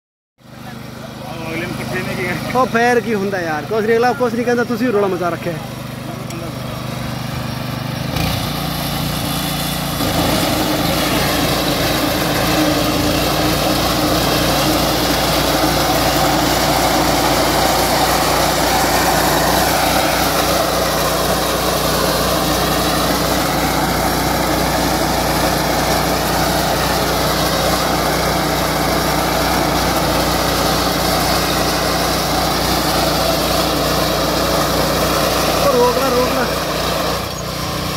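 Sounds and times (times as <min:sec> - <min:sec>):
small engine running under load: 0:00.4 - 0:37.9.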